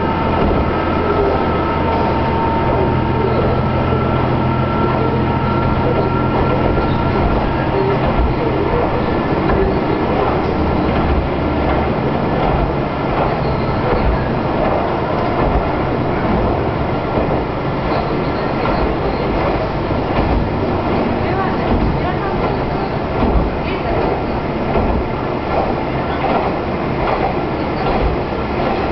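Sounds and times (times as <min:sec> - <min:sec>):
rail-joint clicks: 0:00.0 - 0:28.9
railcar engine drone: 0:00.0 - 0:28.9
wheels rumbling on rail: 0:00.0 - 0:28.9.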